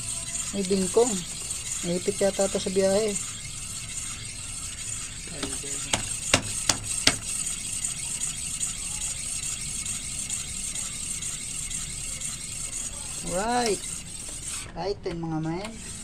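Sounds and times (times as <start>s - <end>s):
brake disc ticking: 0.0s - 16.0s.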